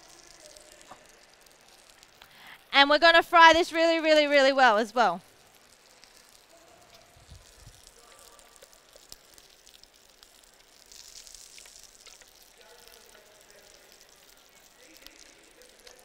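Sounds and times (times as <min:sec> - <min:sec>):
paste sizzling in hot oil: 0:00.0 - 0:16.0.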